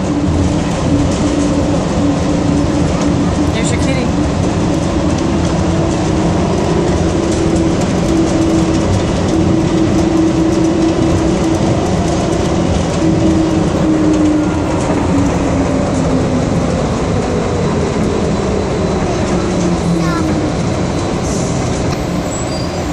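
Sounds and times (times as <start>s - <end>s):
train rumble: 0.0s - 22.9s.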